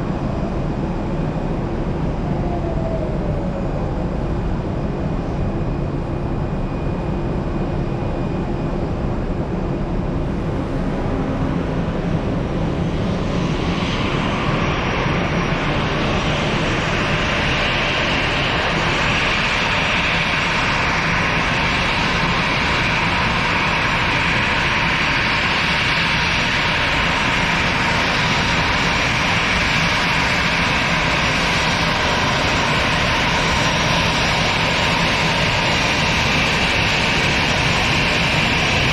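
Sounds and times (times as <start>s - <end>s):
high jet engine whine: 0.0s - 38.9s
jet engine rumble: 0.0s - 38.9s.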